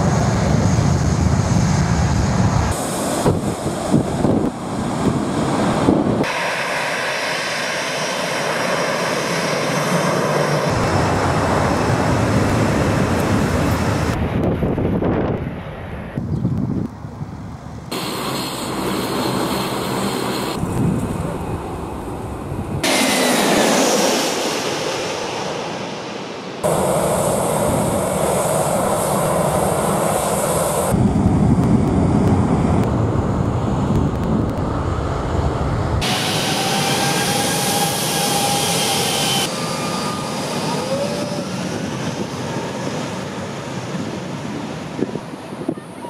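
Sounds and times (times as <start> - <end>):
faint engine whine: 0.0 - 46.0
jet engines roaring: 0.0 - 46.0.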